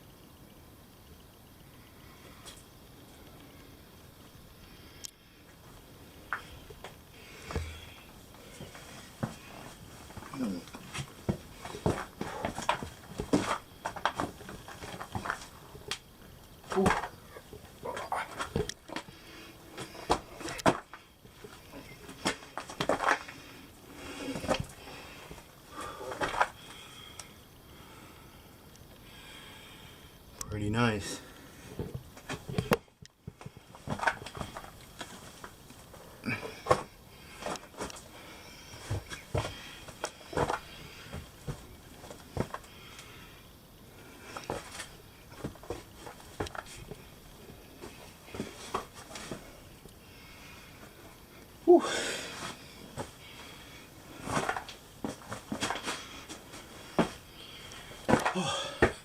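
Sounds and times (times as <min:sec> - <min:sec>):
person moving in a rocky cave: 0:04.8 - 0:27.4, 0:30.9 - 0:43.3, 0:44.0 - 0:59.0.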